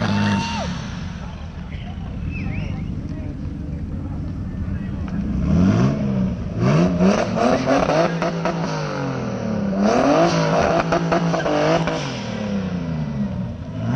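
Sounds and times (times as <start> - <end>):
car engines revving hard: 0.0 - 13.9.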